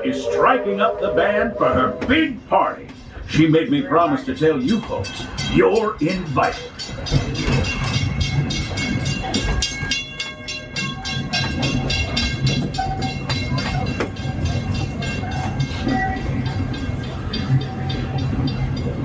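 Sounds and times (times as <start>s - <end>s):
low rumble of train: 0.0s - 19.0s
train coach clattering on rails: 0.0s - 19.0s.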